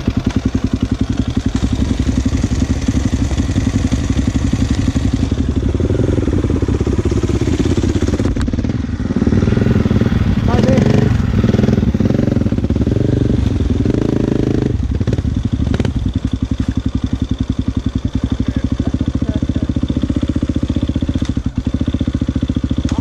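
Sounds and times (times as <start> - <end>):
dirt bike engine: 0.0 - 23.0.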